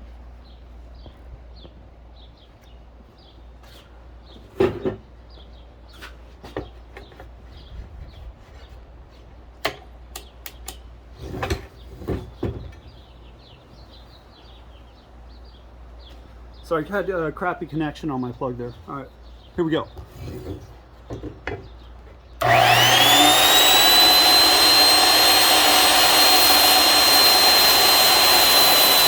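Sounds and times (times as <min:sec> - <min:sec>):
faint birds chirping: 0:00.0 - 0:28.2.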